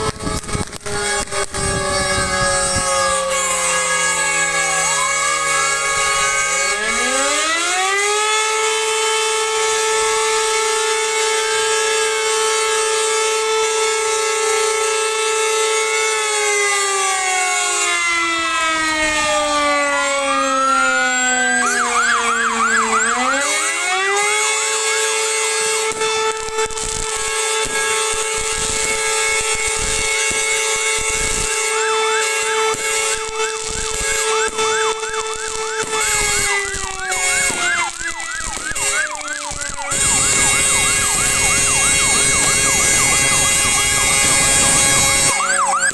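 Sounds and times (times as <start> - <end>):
fire engine sirens wailing: 0.0 - 45.9
siren yelp: 0.0 - 45.9.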